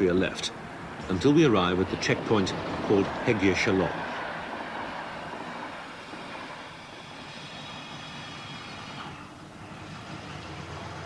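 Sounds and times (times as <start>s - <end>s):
train rumbling: 0.8s - 11.0s.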